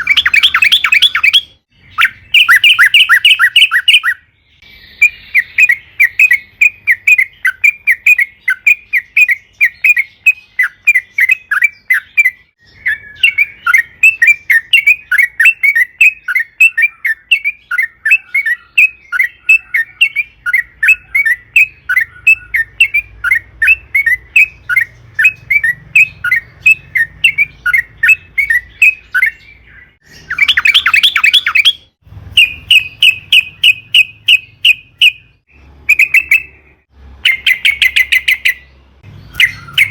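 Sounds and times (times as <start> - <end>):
bird harsh chattering: 0.0 - 4.2, 4.8 - 36.6
bird chirping: 0.0 - 39.9.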